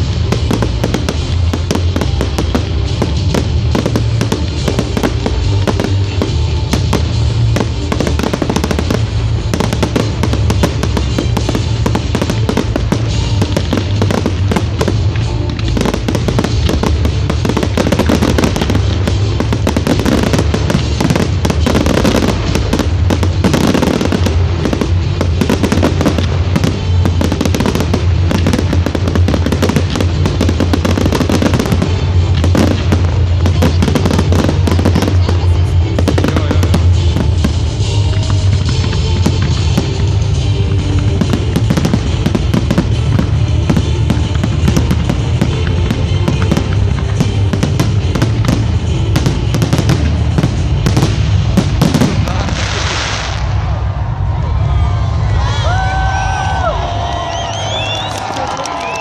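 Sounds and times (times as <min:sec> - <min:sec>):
fireworks bursting and crackling: 0:00.0 - 0:59.0
loud music with heavy bass: 0:00.0 - 0:59.0.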